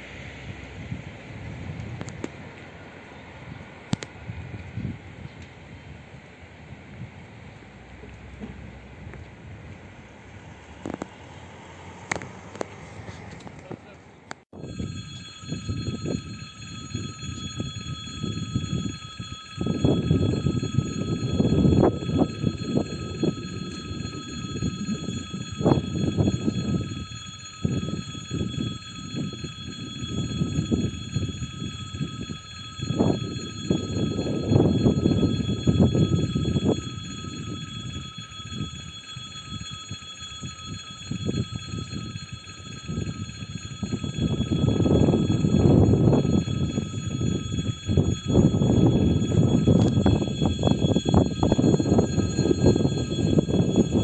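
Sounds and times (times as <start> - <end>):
high ringing held tones: 0.0 - 12.6, 14.4 - 54.0
wind buffeting microphone: 0.0 - 13.6, 14.5 - 54.0.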